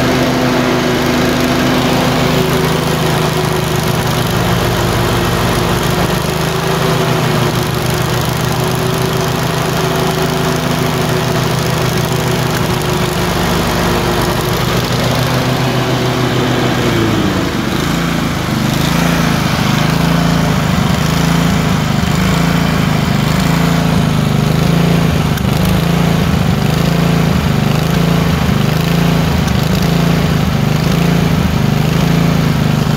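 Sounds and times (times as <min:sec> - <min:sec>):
engine running and surging: 0:00.0 - 0:32.9.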